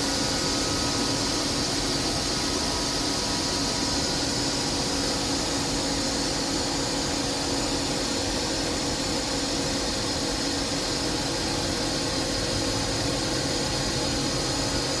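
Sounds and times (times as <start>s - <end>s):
steady machine whining tones: 0.0s - 15.0s.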